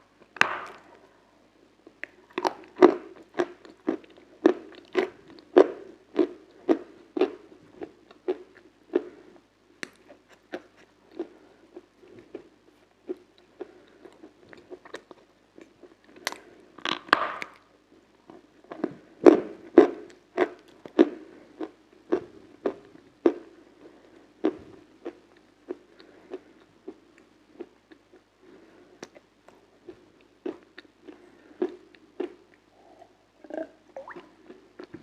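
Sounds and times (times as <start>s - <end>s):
crunchy chewing of ice cream: 1.8s - 17.6s, 18.2s - 35.0s.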